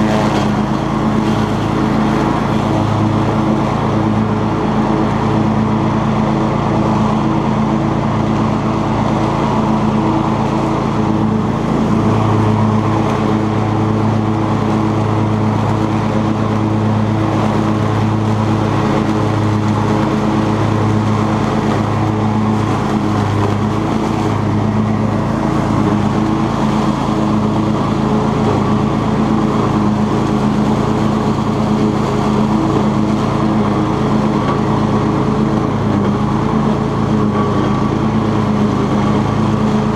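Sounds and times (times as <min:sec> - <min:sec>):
riding mower engine droning: 0:00.0 - 0:39.9.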